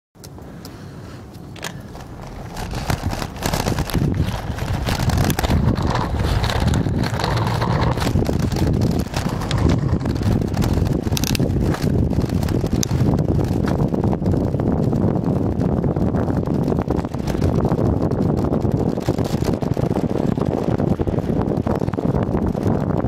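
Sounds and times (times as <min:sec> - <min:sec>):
bicycle clicks and knocks: 0:00.2 - 0:22.1
wind rumbling on microphone: 0:00.2 - 0:23.0.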